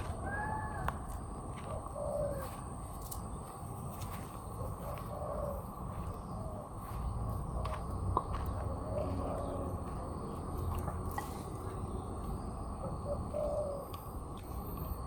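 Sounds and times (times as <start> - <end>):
birds calling: 0.0 - 15.0
low background rumble: 0.0 - 15.0.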